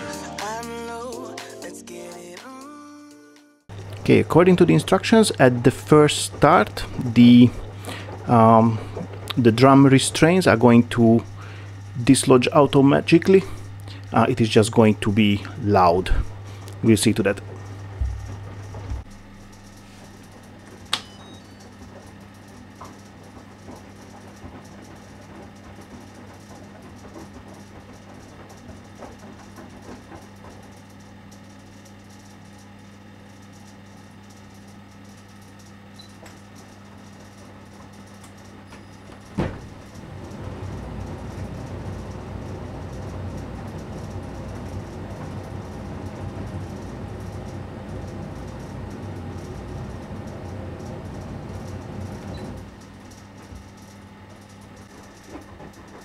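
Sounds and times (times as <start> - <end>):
dryer drum rumbling rattle: 3.7 - 56.0
tumble dryer click: 3.7 - 56.0.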